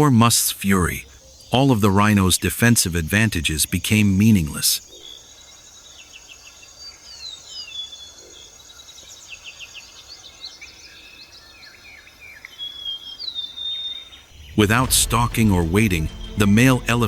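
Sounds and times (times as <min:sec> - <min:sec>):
wild birds chirping: 0:00.0 - 0:14.6.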